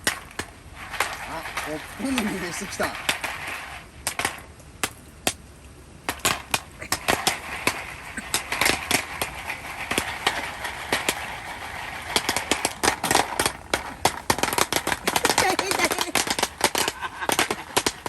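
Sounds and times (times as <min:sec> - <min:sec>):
popcorn popping: 0:00.0 - 0:05.4, 0:06.0 - 0:18.0.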